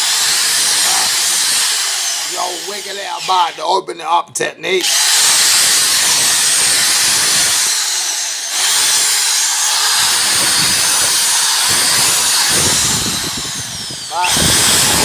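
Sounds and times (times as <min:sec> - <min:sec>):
electric drill boring into wood: 0:00.0 - 0:03.8, 0:04.8 - 0:15.0.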